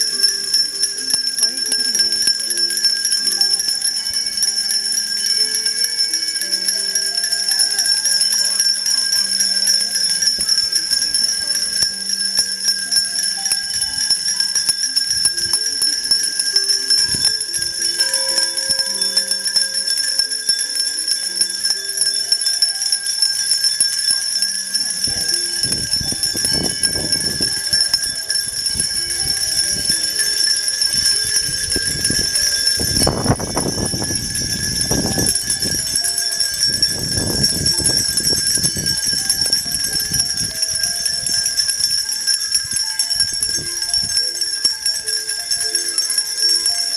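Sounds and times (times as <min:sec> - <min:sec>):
hand bells ringing: 0:00.0 - 0:46.9.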